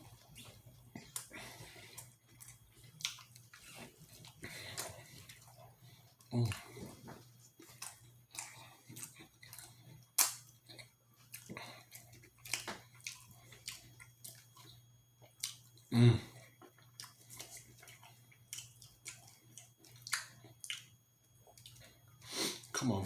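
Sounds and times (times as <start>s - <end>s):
chewing and wet mouth sounds: 0.0s - 22.8s
low electrical hum: 0.0s - 23.0s.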